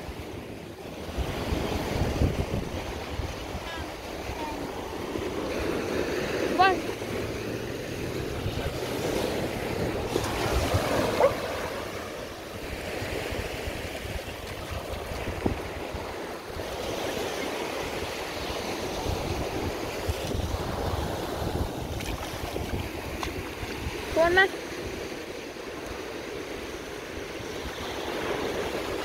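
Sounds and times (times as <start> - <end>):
surf washing onto beach: 0.0 - 29.0
wind gusting on microphone: 0.0 - 29.0.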